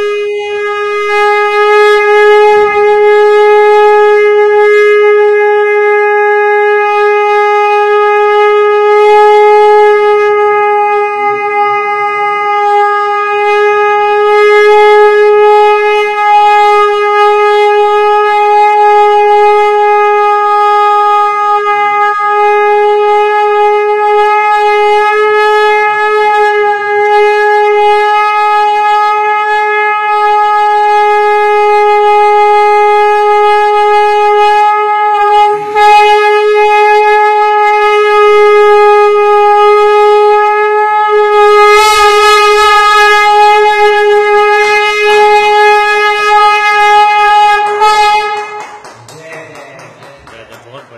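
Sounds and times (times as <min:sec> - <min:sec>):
conch shell blown: 0:00.0 - 0:50.9.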